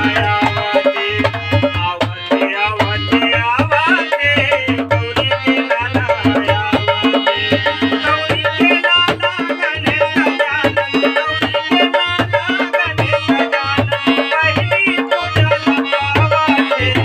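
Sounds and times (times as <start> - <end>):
tabla playing fast rhythm: 0.0 - 17.0.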